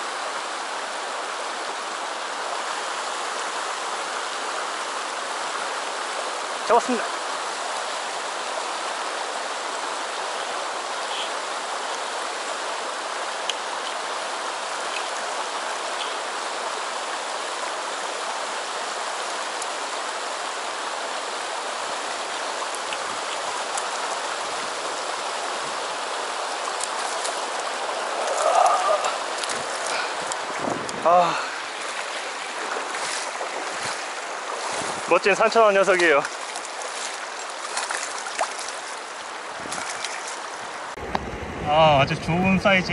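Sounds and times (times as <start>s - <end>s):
stream rushing over rocks: 0.0s - 42.9s.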